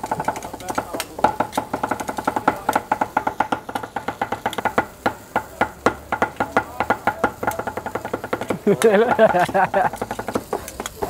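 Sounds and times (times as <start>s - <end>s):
cleaver chopping on wooden board: 0.0s - 11.0s.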